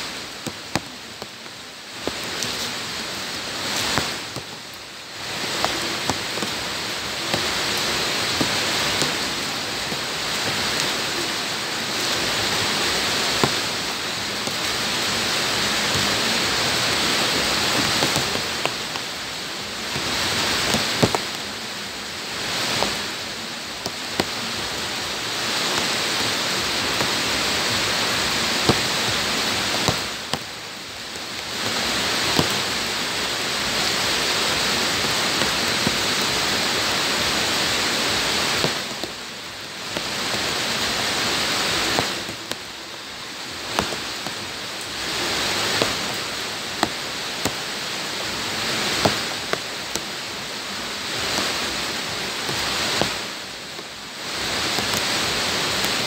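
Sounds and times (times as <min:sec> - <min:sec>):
heavy rain on ground: 0:00.0 - 0:56.0
raindrop splats: 0:00.0 - 0:56.0.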